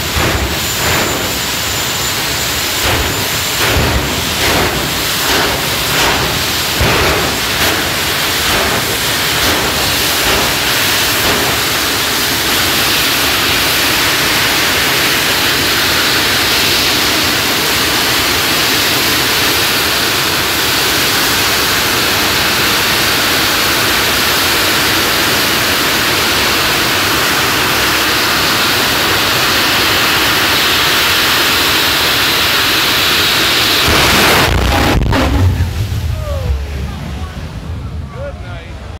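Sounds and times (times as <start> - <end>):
jet engines rushing hiss: 0.0 - 38.9.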